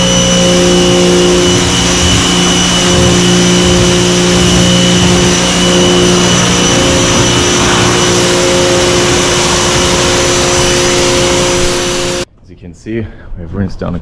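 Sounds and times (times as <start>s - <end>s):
pump motor hum: 0.0s - 12.3s.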